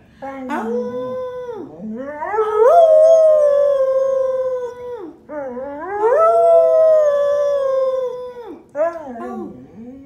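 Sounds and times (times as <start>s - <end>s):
dog howling: 0.5s - 8.6s.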